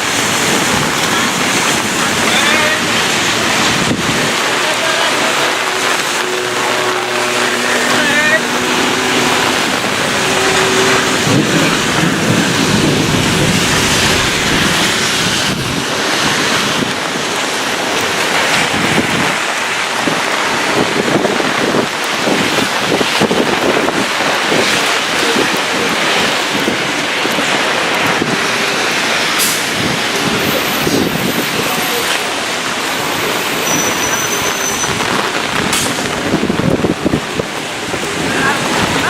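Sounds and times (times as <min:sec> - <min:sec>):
heavy rain pouring: 0:00.0 - 0:39.0
wind buffeting microphone: 0:00.0 - 0:39.0.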